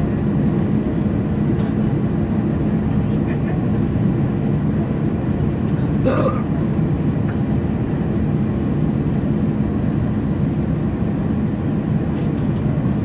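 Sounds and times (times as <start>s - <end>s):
jet engines humming in cabin: 0.0s - 13.0s.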